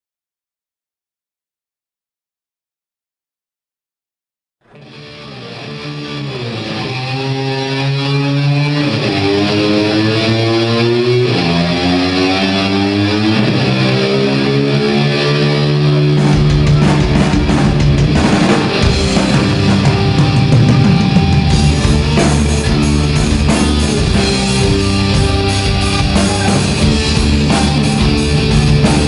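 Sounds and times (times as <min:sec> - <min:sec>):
rock band with drums: 0:04.6 - 0:29.0
electric slide guitar notes: 0:04.7 - 0:29.0.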